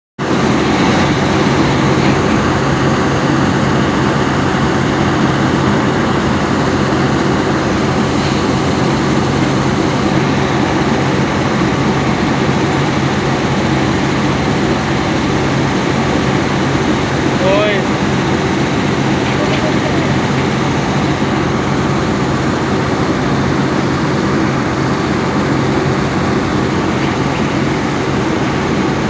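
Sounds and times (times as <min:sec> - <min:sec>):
excavator diesel engine running: 0:00.2 - 0:29.0.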